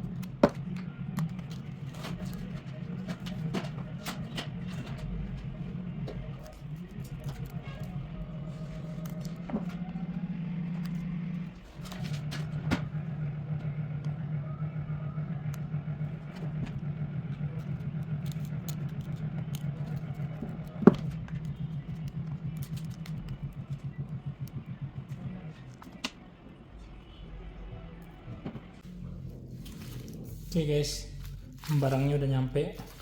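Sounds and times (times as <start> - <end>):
motor humming: 0.0 - 33.0.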